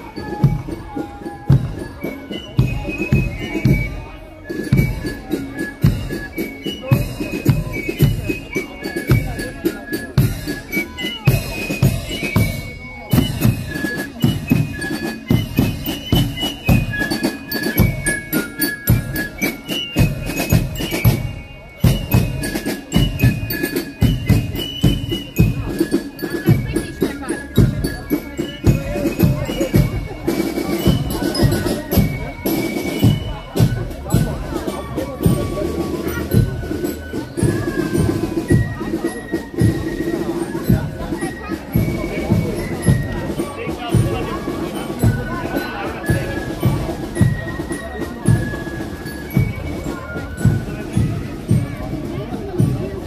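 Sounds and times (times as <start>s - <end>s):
drums beating: 0.0s - 53.0s
marching band playing: 0.0s - 53.0s.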